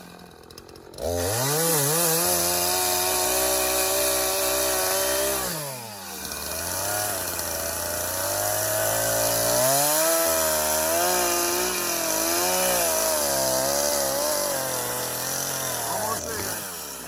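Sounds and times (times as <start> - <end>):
chainsaw cutting through log: 0.0 - 17.0.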